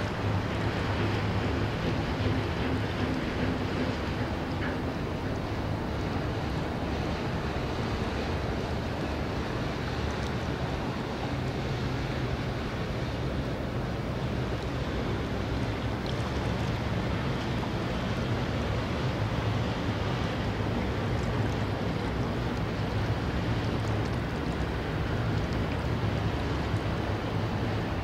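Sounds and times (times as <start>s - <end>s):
distant train rumble: 0.0s - 28.0s
river water washing: 0.0s - 28.0s.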